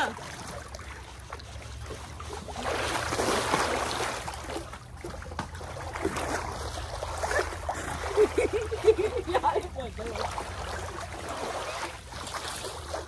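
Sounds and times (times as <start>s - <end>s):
pool water sloshing and splashing: 0.0s - 13.0s.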